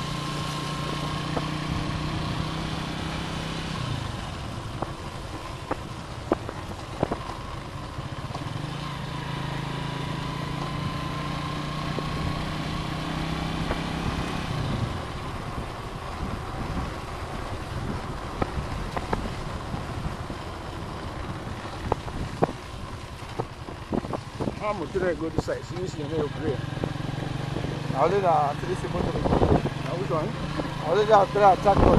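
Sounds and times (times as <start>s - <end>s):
motorcycle engine running: 0.0s - 31.9s
wind and road noise: 0.0s - 31.9s.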